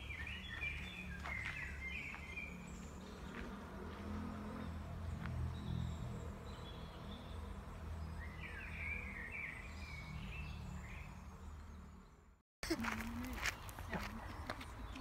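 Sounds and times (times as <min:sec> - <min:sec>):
warbling birdsong: 0:00.0 - 0:12.4
birds calling: 0:00.0 - 0:15.0.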